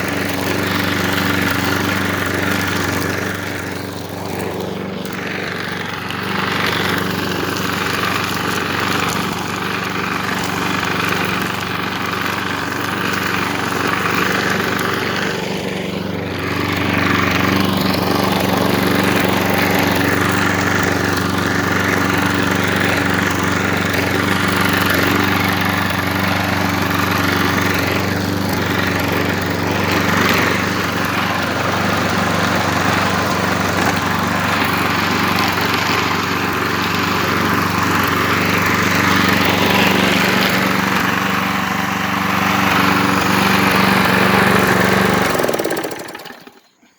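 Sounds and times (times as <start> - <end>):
lawn mower engine running: 0.0 - 46.9.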